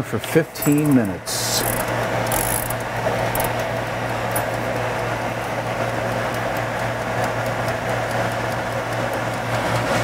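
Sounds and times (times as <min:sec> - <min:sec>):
kitchen timer ticking: 0:00.6 - 0:09.7.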